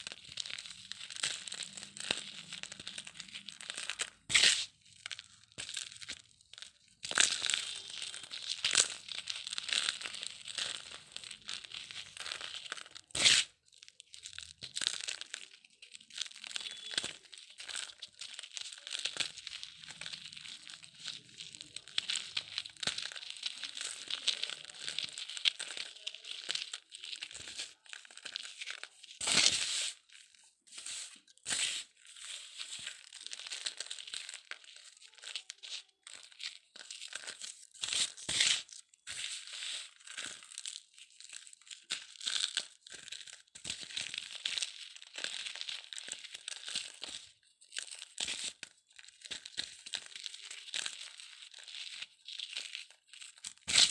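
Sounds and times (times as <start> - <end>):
dried cement crumbling: 0.0 - 53.9.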